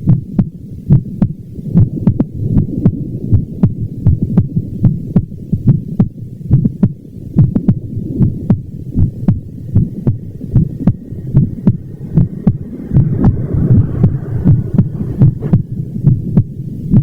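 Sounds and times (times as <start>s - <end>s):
heartbeat thuds: 0.0s - 17.0s.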